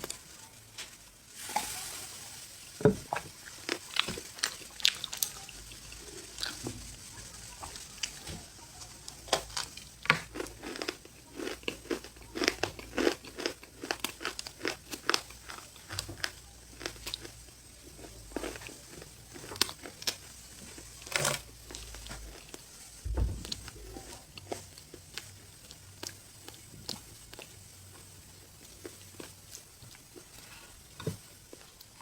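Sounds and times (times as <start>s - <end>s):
crunching and chewing: 0.0s - 32.0s.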